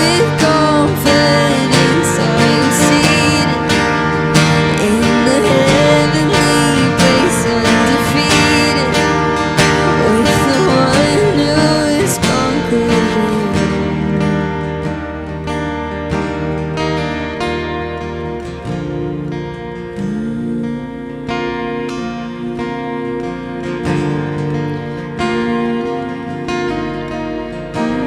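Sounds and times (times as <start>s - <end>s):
instrumental worship band music: 0.0s - 28.0s.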